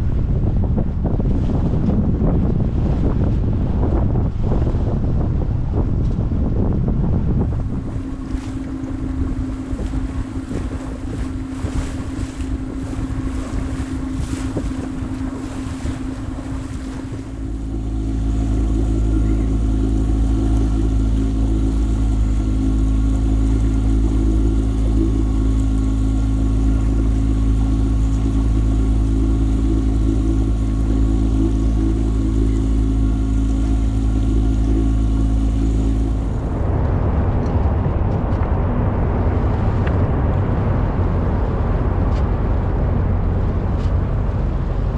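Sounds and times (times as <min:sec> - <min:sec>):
boat engine humming: 0:00.0 - 0:44.9
choppy water: 0:00.0 - 0:44.9
wind buffeting microphone: 0:00.0 - 0:44.9.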